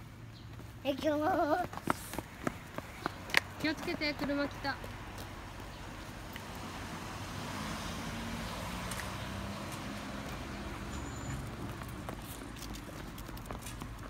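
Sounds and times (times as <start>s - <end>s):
car driving slowly past: 2.2s - 14.0s.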